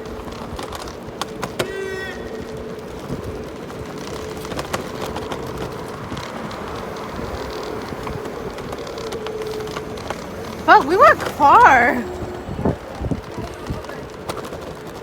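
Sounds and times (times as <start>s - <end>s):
road and wind noise: 0.0s - 15.0s
scooter rattling over bumps: 0.0s - 15.0s.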